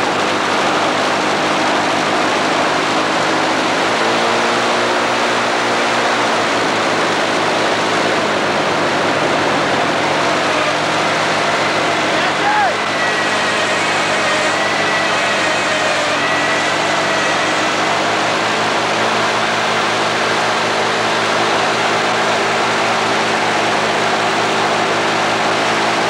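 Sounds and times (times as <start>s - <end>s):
engine tones rising and falling: 0.0s - 26.0s
loud rushing noise: 0.0s - 26.0s
vehicle engine running: 0.0s - 26.0s.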